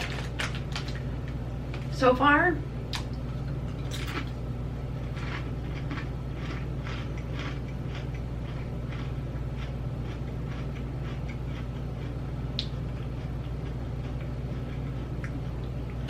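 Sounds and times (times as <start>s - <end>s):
chips being chewed: 0.0s - 1.1s, 2.9s - 4.4s, 5.0s - 16.0s
low hum: 0.0s - 16.0s.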